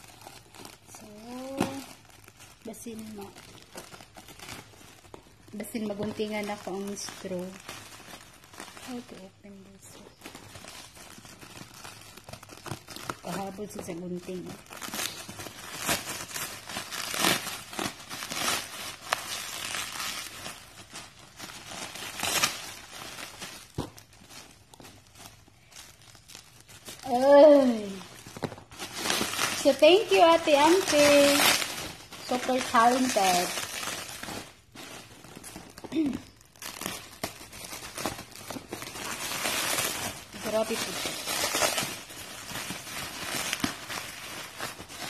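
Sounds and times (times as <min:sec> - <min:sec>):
plastic packaging crinkling: 0:00.0 - 0:45.0.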